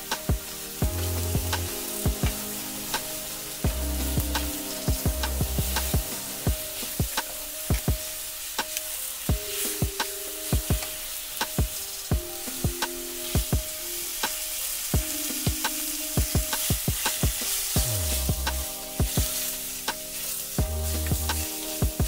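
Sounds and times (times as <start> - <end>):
beef sizzling in a wok: 0.0 - 22.0
soft background music: 0.0 - 22.0.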